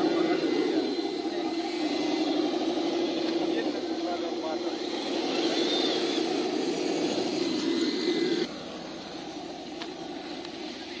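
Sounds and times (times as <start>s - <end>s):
electric motor and gearbox whining: 0.0s - 11.0s.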